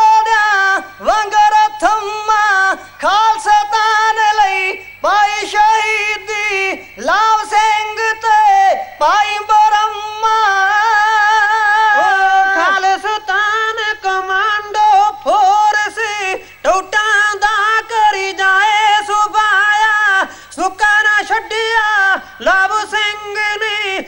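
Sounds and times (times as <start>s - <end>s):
faint steady hum: 0.0s - 24.0s
man singing over a pa: 0.0s - 24.0s.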